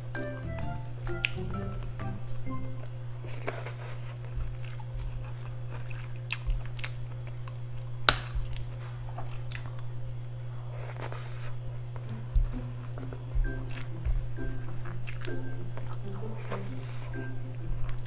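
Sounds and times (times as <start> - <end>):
low hum: 0.0 - 18.0
chewing and crunching seafood: 3.2 - 18.0.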